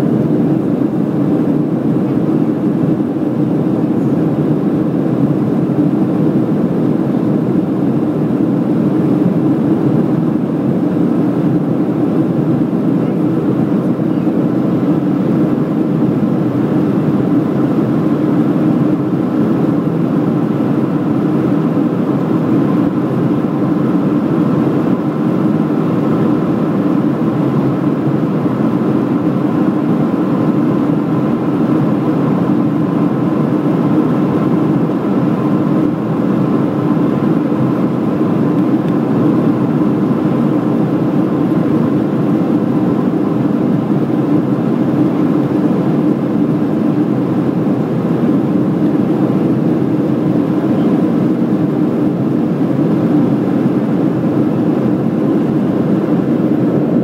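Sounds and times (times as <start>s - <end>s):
faint steady whine: 0.0s - 57.0s
jet engines roaring: 0.0s - 57.0s.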